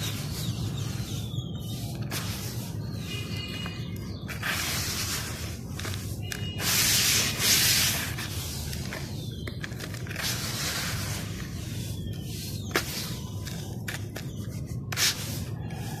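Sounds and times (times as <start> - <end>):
gritty sand rubbed by hand: 0.0 - 16.0.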